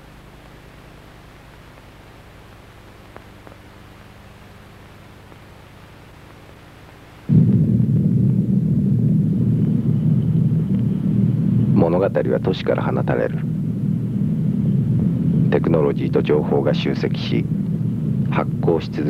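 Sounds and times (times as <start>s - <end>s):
faint tape hiss and hum: 0.0s - 19.0s.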